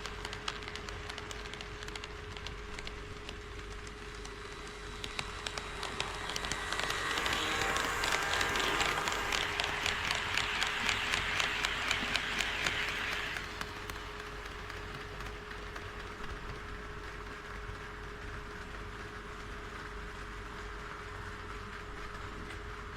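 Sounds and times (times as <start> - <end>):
wheels clicking over rail joints: 0.0 - 19.4
model train running: 0.0 - 22.9.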